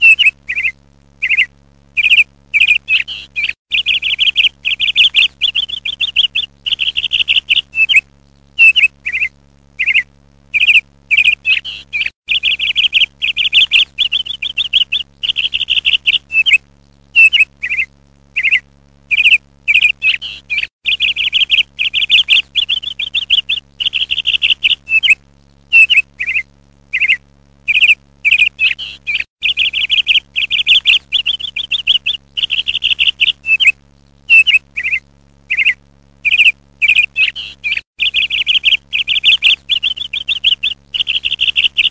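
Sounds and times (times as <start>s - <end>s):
bird chirping in rapid trills: 0.0s - 41.9s
faint steady hum: 0.0s - 41.9s.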